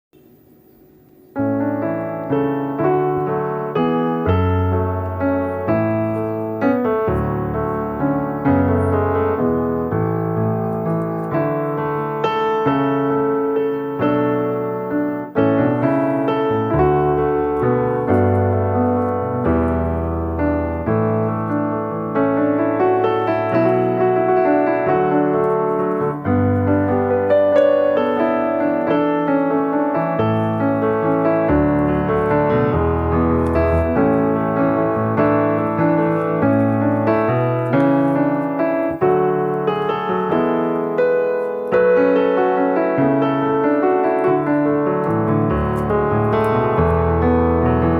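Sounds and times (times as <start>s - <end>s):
piano music: 0.9s - 47.9s.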